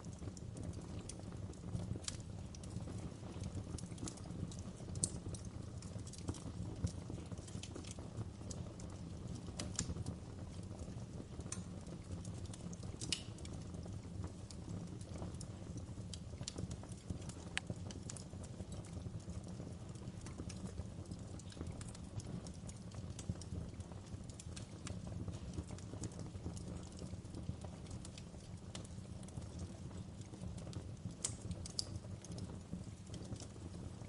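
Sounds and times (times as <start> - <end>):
burning logs popping: 0.0 - 34.0
wood fire crackling: 0.0 - 34.0.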